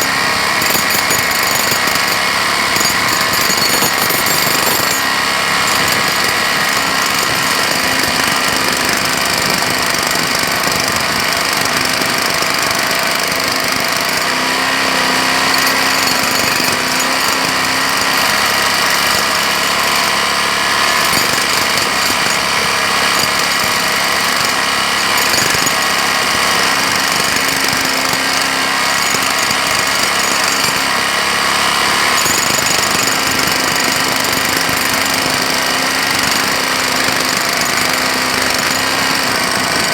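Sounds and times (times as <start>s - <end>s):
jackhammer hammering: 0.0s - 39.9s.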